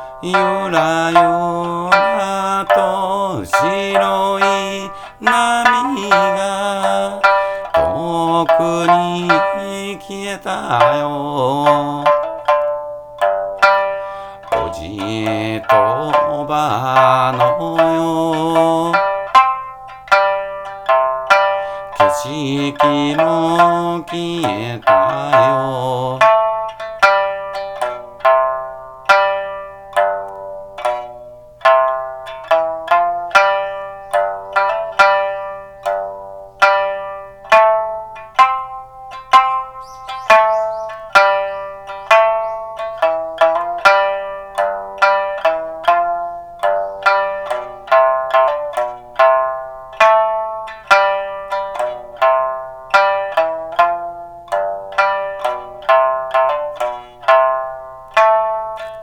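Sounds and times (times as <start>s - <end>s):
plucked string instrument melody: 0.0s - 59.0s.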